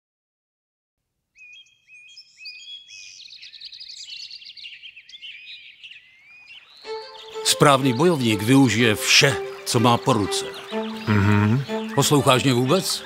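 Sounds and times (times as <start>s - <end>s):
songbirds chirping and singing: 1.4s - 13.0s.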